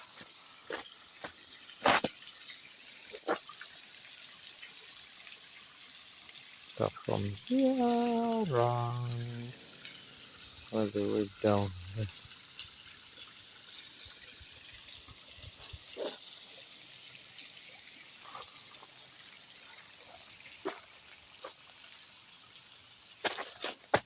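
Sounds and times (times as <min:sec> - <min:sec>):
stream and waterfall trickling: 0:00.0 - 0:24.0.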